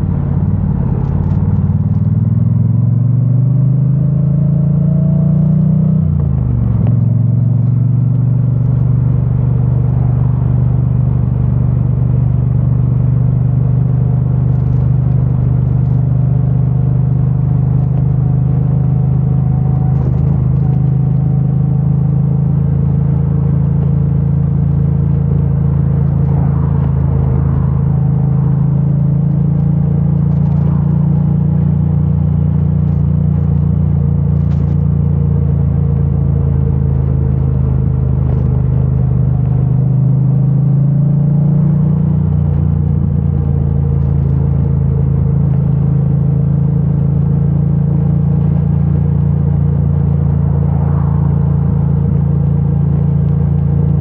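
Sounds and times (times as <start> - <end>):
motorcycle engine revving and cruising: 0.0 - 54.0.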